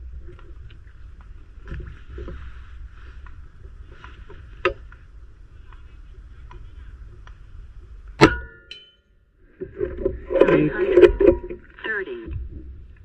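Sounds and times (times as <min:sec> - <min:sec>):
low steady hiss: 0:00.0 - 0:13.0.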